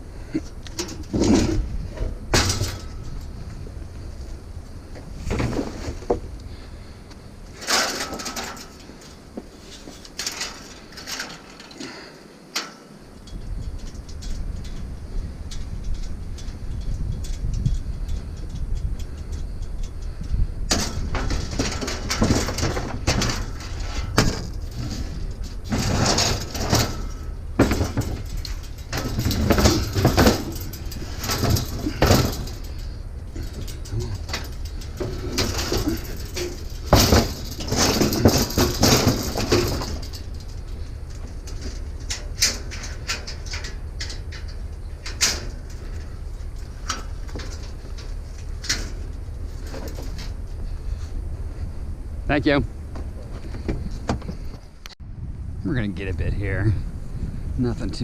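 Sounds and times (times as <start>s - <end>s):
knocks and rattles: 0.0s - 6.9s, 7.5s - 55.0s
vehicle road and engine rumble: 0.0s - 58.0s.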